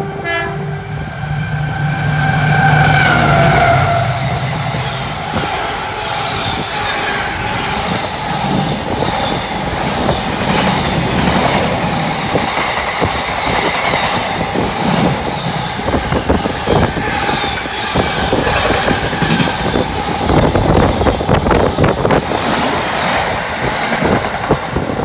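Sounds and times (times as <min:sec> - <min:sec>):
steel wheels rumbling on rails: 0:00.0 - 0:25.0
wheels squealing: 0:01.6 - 0:22.6.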